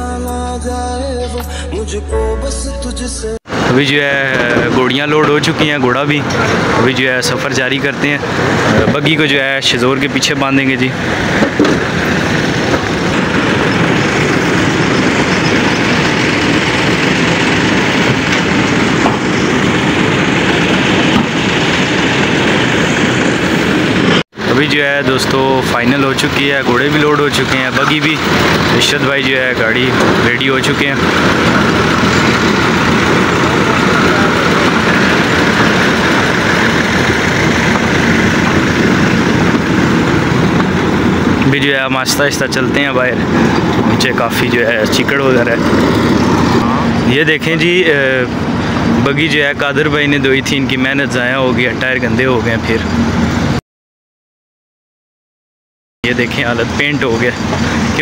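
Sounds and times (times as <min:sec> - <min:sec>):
truck engine rumbling: 0:00.0 - 0:53.6, 0:56.0 - 0:58.0.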